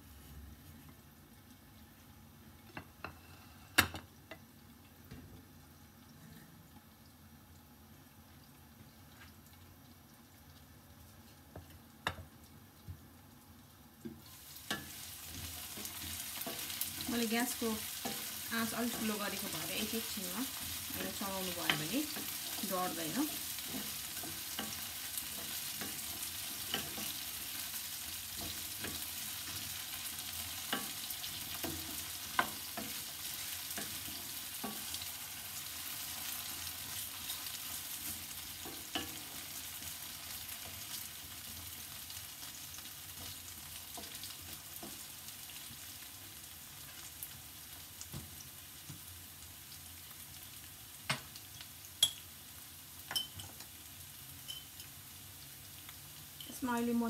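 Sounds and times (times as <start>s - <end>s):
potatoes sizzling in hot oil: 6.8s - 57.0s.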